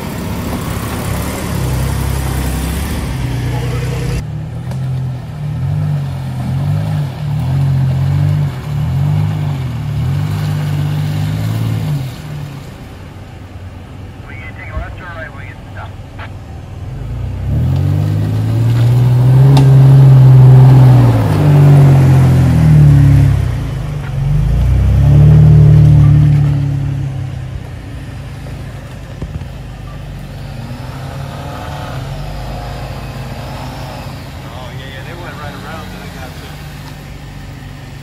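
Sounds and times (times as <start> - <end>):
car engine revving uphill: 0.0 - 38.0.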